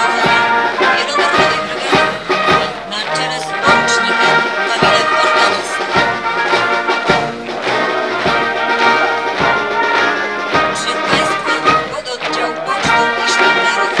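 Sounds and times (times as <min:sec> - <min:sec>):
brass band playing a march: 0:00.0 - 0:14.0
low drum beat: 0:00.0 - 0:14.0.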